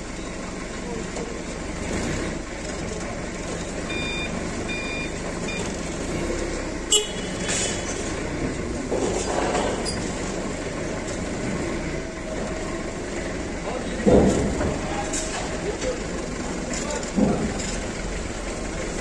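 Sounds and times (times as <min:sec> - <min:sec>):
forklift engine running: 0:00.0 - 0:19.0.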